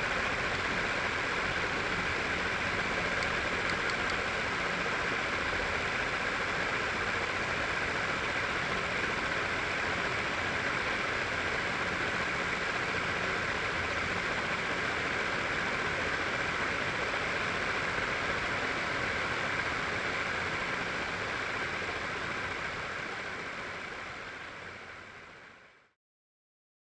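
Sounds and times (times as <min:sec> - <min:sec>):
small motor spinning fan whir: 0:00.0 - 0:25.8.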